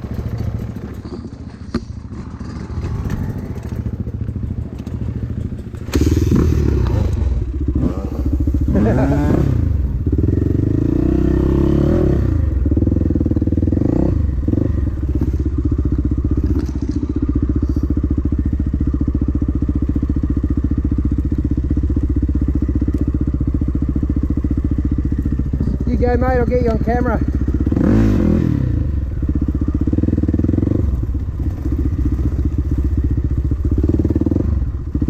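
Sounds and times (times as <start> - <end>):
dirt bike engine at low revs: 0.0 - 35.0
dirt bike engine revving: 0.0 - 35.0.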